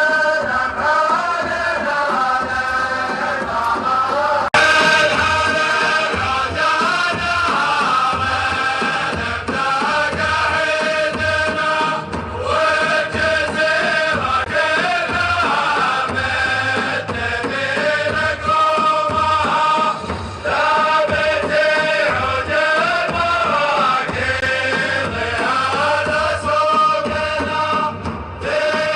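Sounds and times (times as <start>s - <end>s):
person singing chanted song: 0.0s - 28.9s
steady low beat: 0.0s - 28.9s.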